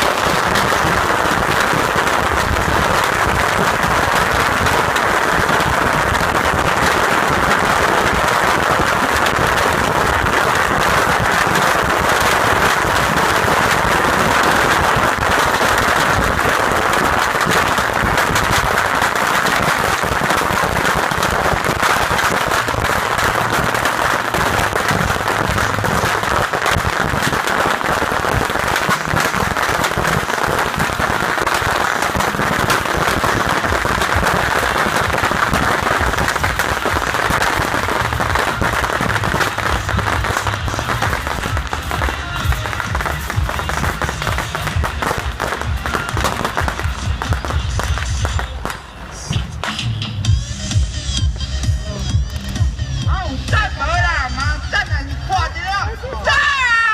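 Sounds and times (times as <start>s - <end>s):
bottle rockets crackling and whooshing: 0.0s - 49.9s.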